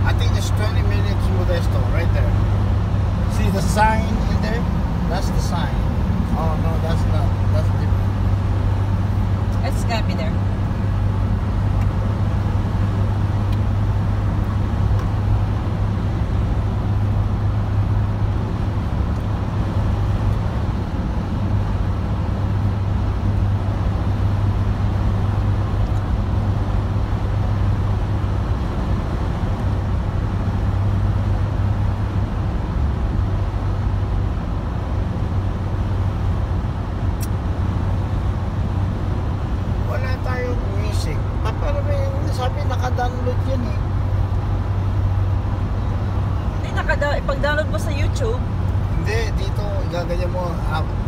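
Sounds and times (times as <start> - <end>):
car engine and tyre drone: 0.0 - 51.0.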